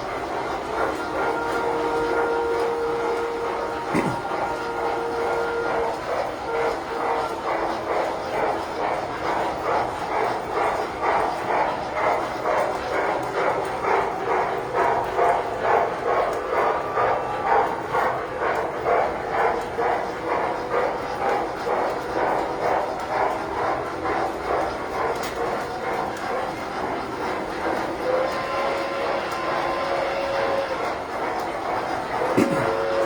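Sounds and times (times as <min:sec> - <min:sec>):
model steam locomotive chuffing: 0:00.0 - 0:33.0
train rumbling on track: 0:00.0 - 0:33.0.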